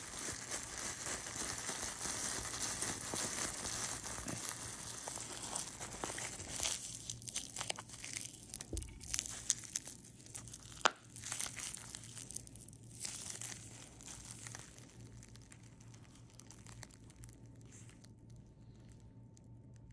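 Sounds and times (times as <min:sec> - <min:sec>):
bubble wrap crinkling: 0:00.0 - 0:19.9
bubble wrap popping: 0:00.0 - 0:19.9.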